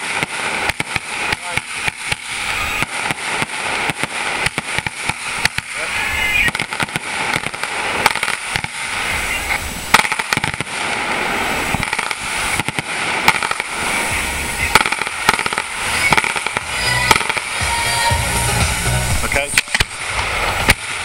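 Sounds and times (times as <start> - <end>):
fireworks bangs and cracks: 0.0 - 21.0
fireworks crackle: 0.0 - 21.0.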